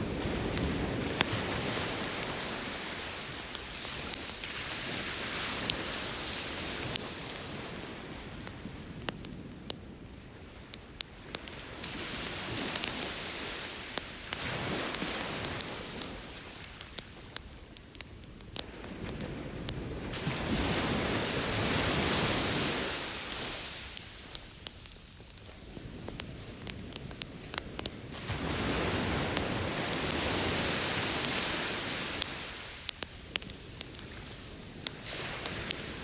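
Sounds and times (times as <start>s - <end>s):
campfire crackling: 0.0s - 36.0s
ocean waves washing ashore: 0.0s - 36.0s.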